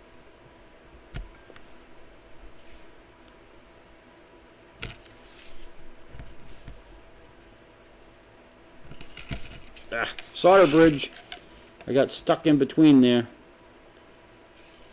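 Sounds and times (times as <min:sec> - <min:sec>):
faint electrical whine: 0:00.0 - 0:14.9
faint soldering hisses: 0:01.2 - 0:13.2.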